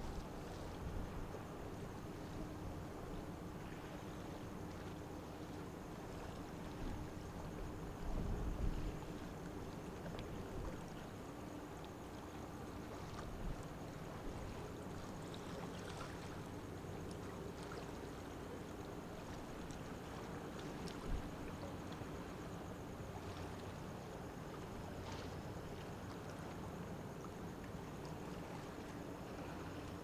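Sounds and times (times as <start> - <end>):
low hum of ship machinery: 0.0 - 30.0.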